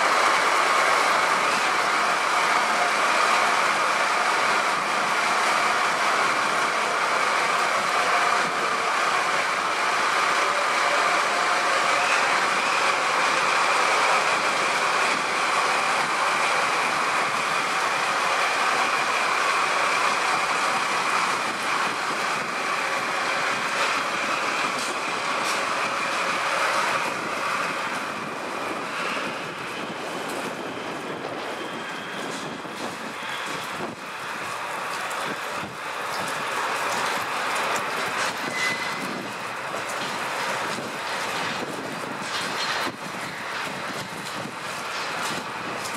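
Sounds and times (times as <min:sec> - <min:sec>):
diesel locomotive engine running: 0:00.0 - 0:45.9.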